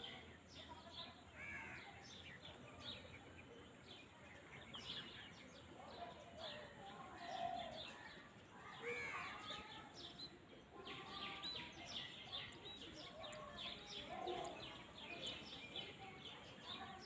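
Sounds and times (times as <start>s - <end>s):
birds chirping: 0.0s - 17.0s
faint outdoor background noise: 0.0s - 17.0s.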